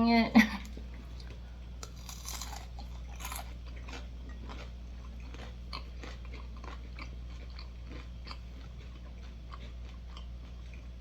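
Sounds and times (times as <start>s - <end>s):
steady low hum: 0.0s - 11.0s
person chewing food: 0.6s - 11.0s.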